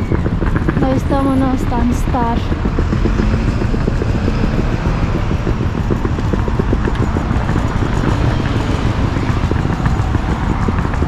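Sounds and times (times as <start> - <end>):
cars passing: 0.0 - 11.0
wind buffeting microphone: 0.0 - 11.0.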